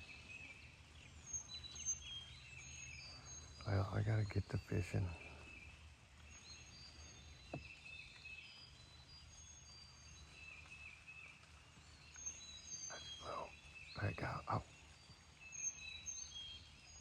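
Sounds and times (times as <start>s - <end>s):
birds whistling: 0.0s - 17.0s.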